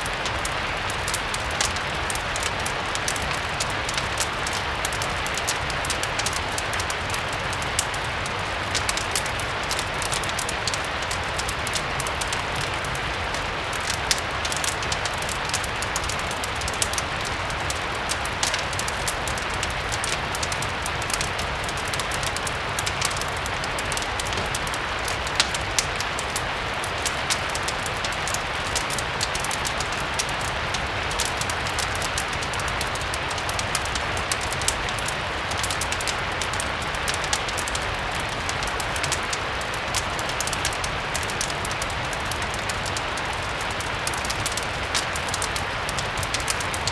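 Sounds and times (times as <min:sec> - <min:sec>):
steady rain hiss: 0:00.0 - 0:46.9
wood fire crackles: 0:00.0 - 0:46.9.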